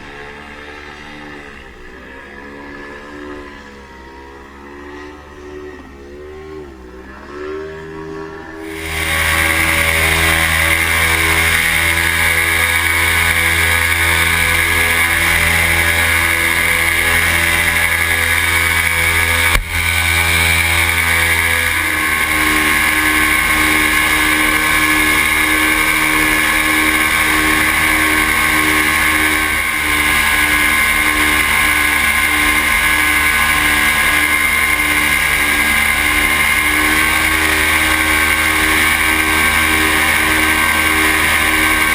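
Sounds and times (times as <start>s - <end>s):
paramotor engine and propeller: 0.0s - 41.9s.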